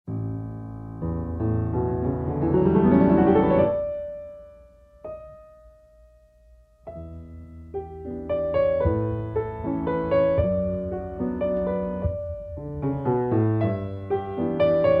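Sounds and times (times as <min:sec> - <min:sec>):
piano music: 0:00.1 - 0:15.0.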